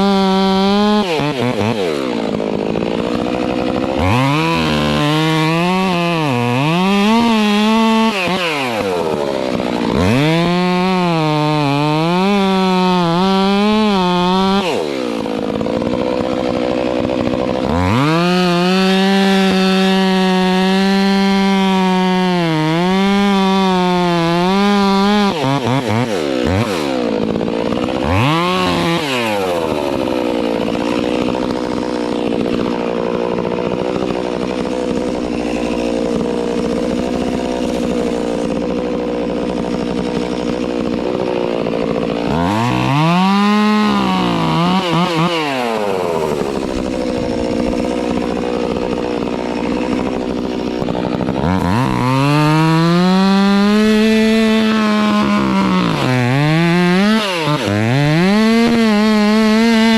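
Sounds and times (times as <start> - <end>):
chainsaw cutting a tree: 0.0 - 59.9.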